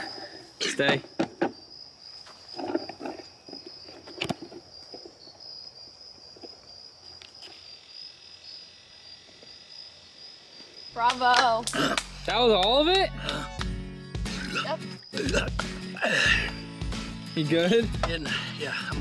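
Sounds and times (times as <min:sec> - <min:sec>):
insects trilling: 0:00.0 - 0:13.0, 0:14.2 - 0:19.0.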